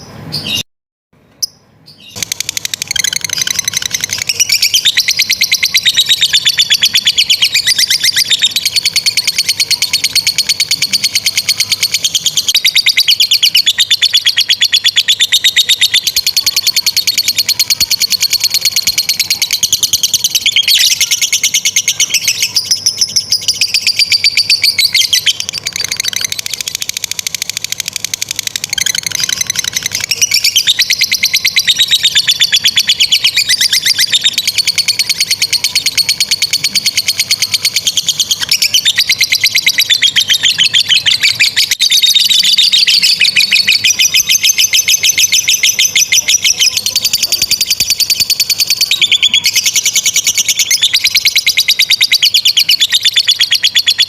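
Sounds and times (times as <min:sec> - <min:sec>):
lovebird shrill chatter: 0:02.1 - 0:54.0.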